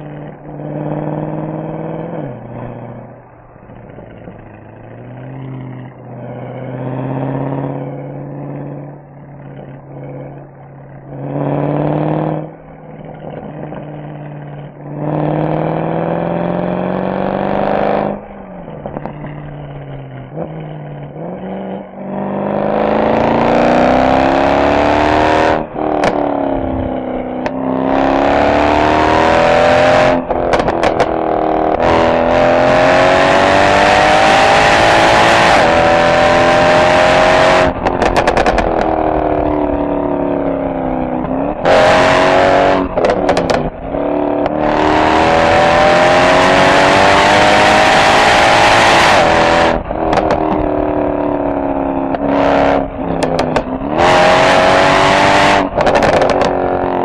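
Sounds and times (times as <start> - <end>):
car exhaust revving: 0.0 - 57.0
exhaust crackling: 0.0 - 57.0.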